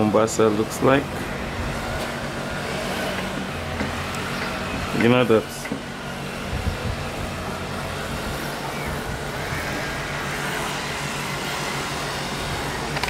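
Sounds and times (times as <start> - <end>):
air-conditioner condenser running: 0.0 - 13.0.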